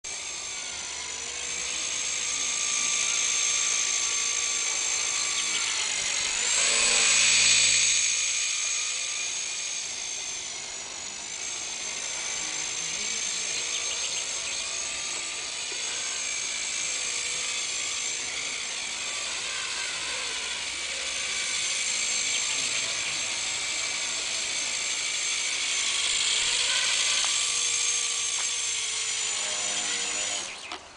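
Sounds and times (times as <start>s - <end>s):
rc helicopter motor whine: 0.1s - 30.9s.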